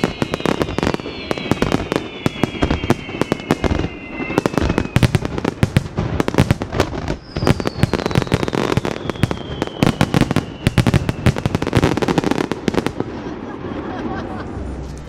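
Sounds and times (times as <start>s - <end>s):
firework whistle gliding down: 0.0s - 14.2s
fireworks bangs and crackling: 0.0s - 14.7s.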